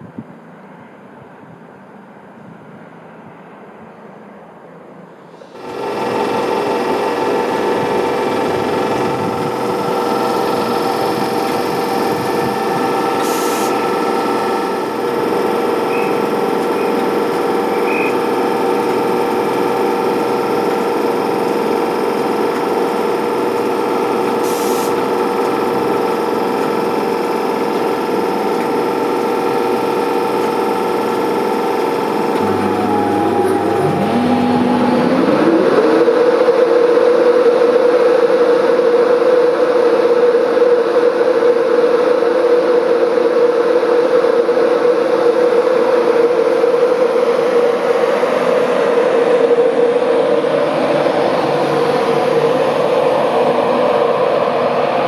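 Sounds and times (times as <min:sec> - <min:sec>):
electric locomotive whining hum: 0:00.0 - 0:55.0.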